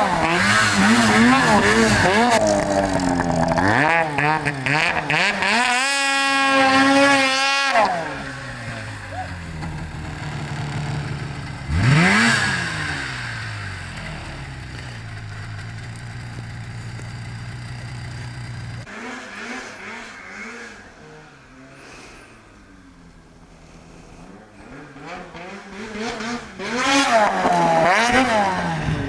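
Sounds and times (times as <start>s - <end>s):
snowmobile engine running: 0.0s - 22.1s, 23.7s - 29.0s
snowmobile engine revving: 0.0s - 29.0s.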